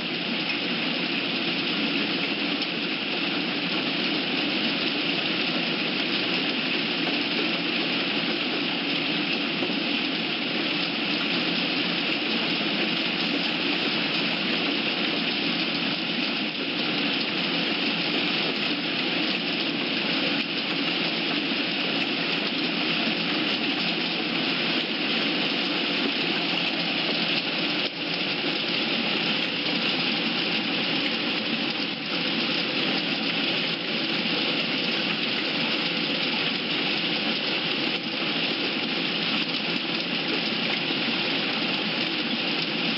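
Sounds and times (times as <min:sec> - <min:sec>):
steady rushing noise: 0:00.0 - 0:42.9.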